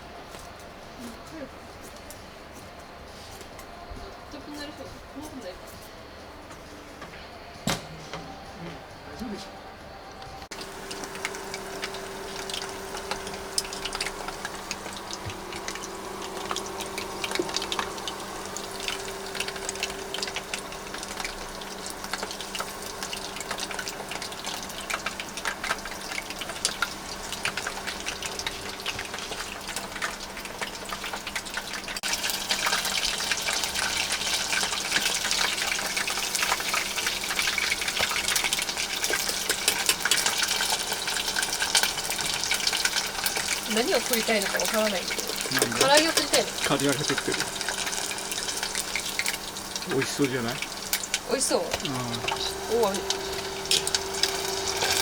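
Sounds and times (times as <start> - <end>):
chicken sizzling in hot oil: 10.5 - 55.0.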